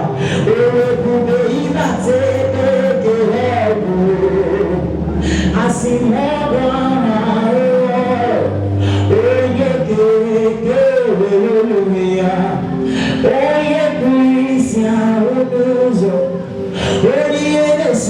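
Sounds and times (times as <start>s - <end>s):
musical accompaniment: 0.0s - 18.0s
person singing gospel: 0.0s - 18.0s.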